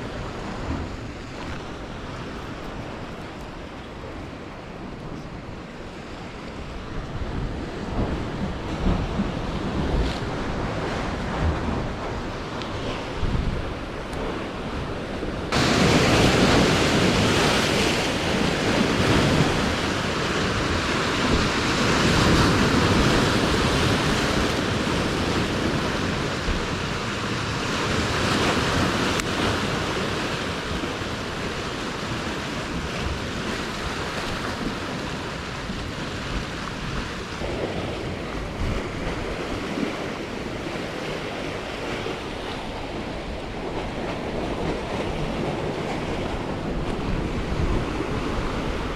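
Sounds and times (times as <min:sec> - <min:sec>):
sea waves washing among rocks: 0:00.0 - 0:48.9
wind buffeting microphone: 0:00.0 - 0:48.9.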